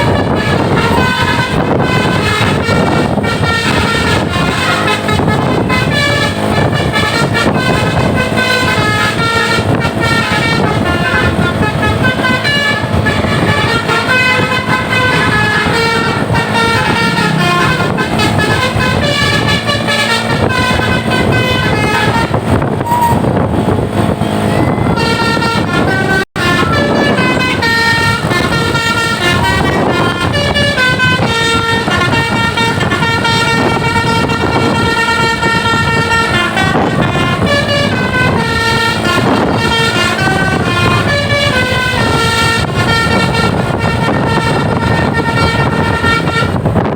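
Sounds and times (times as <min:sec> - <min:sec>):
musical air horn melody: 0:00.0 - 0:46.9.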